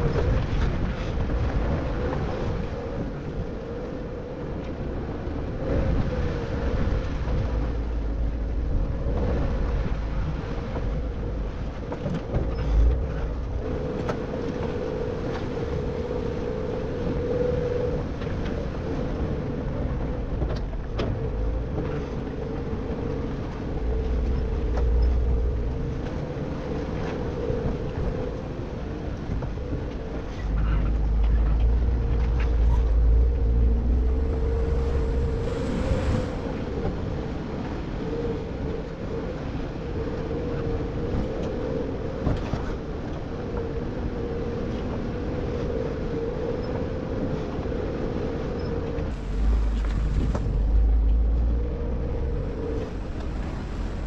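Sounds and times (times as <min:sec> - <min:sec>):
engine running at low speed: 0:00.0 - 0:54.0
wind buffeting microphone: 0:00.0 - 0:54.0.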